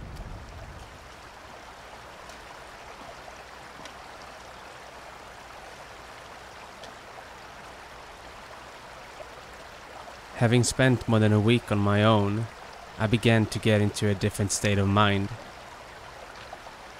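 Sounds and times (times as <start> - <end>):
stream flowing over stones: 0.0 - 16.9.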